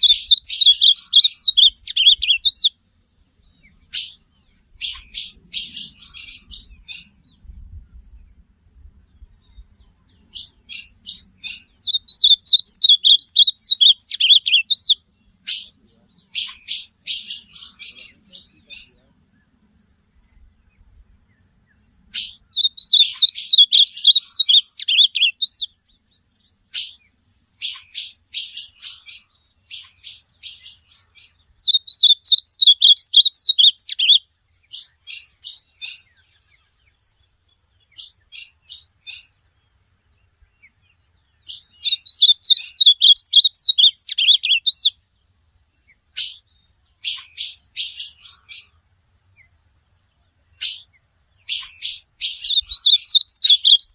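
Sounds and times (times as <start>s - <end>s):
bird warbling song: 0.0s - 53.9s.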